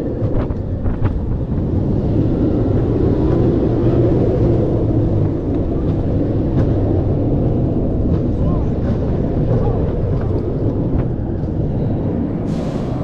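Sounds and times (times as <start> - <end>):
roller coaster wheels rumbling: 0.0 - 13.0
rushing air: 0.0 - 13.0.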